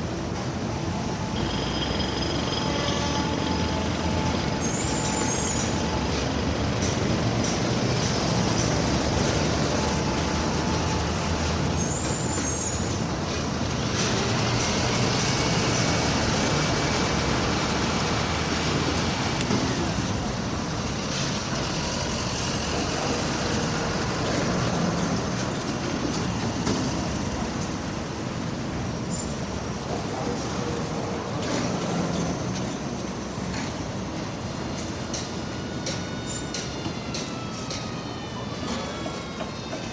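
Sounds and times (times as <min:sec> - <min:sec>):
construction machinery rumbling: 0:00.0 - 0:39.9
vehicle traffic noise: 0:00.0 - 0:39.9.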